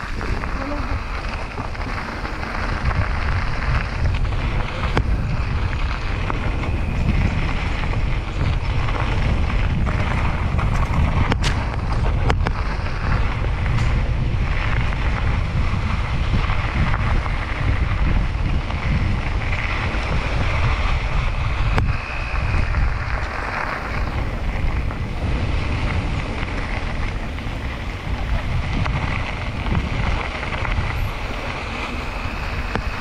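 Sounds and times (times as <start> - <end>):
tyres rolling on gravel: 0.0 - 33.0
wind buffeting microphone: 0.0 - 33.0.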